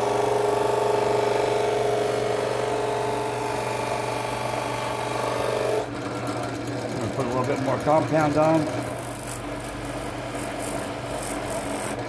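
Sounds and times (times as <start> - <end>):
drill press motor hum and whir: 0.0 - 12.0.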